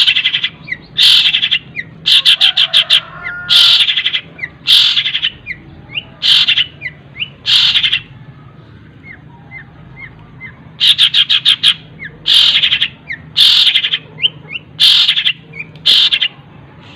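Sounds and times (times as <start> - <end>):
bird singing fast harsh song: 0.0 - 16.9.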